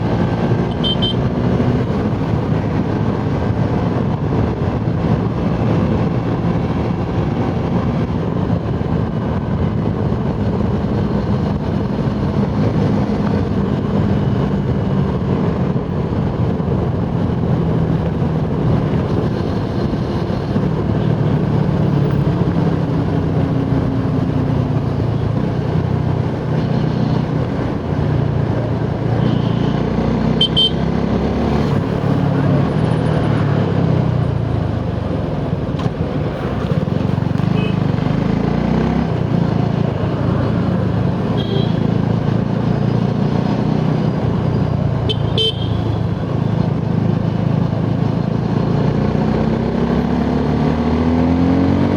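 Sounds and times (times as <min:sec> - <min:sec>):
motorcycle engine running: 0:00.0 - 0:49.0
wind and road noise: 0:00.0 - 0:51.9.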